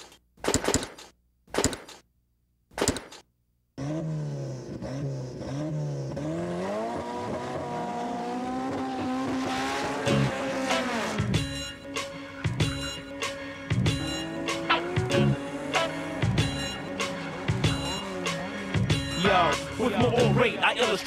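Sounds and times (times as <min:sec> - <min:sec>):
car engine revving: 0:03.8 - 0:20.8.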